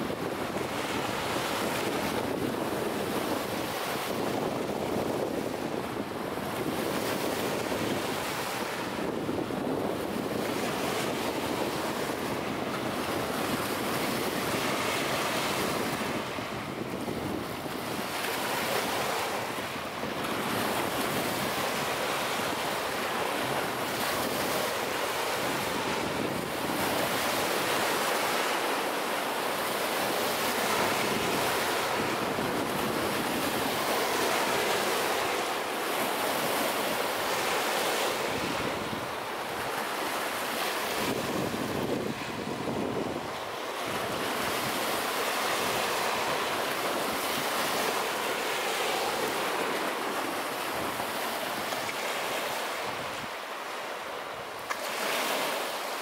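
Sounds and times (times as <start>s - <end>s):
waves washing up a beach: 0.0s - 56.0s.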